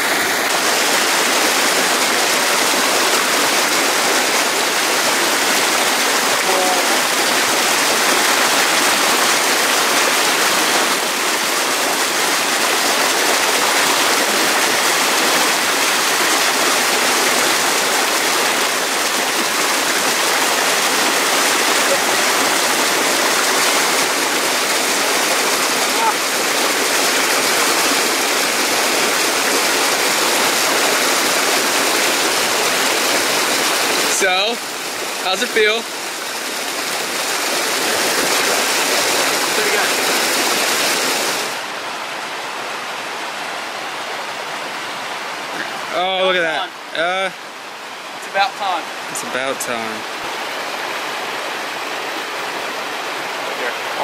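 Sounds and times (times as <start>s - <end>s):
water rushing over cascade: 0.0s - 54.0s.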